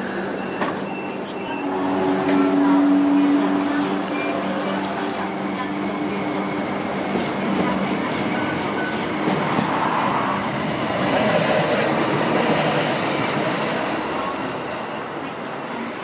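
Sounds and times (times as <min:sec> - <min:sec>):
tram passing: 0:00.0 - 0:16.0.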